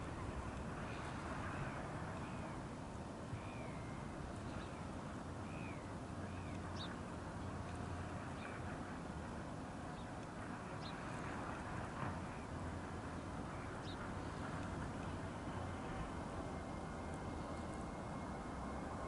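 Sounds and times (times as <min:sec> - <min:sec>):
distant jet engines: 0:00.0 - 0:19.0.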